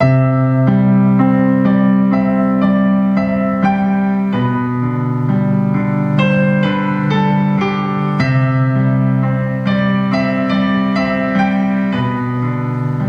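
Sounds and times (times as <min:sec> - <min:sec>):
piano playing sustained chords: 0:00.0 - 0:13.0.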